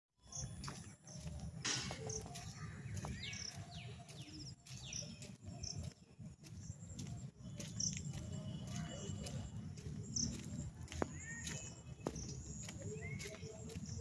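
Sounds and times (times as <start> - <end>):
footsteps on paved path: 0.2 - 14.0
small birds chirping: 0.2 - 14.0.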